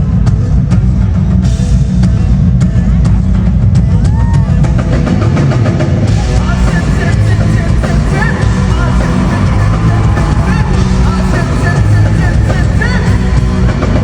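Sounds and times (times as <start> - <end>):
live band music over pa: 0.0 - 14.0.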